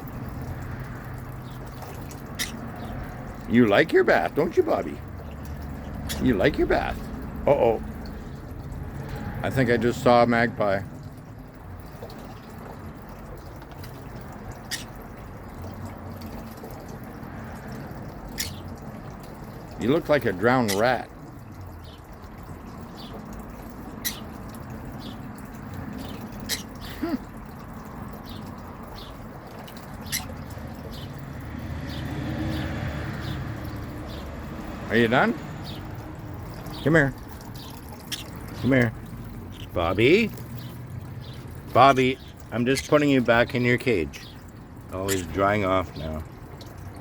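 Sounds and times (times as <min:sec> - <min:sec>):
bird bathing: 0:00.0 - 0:47.0
water dripping and splashing: 0:00.0 - 0:47.0.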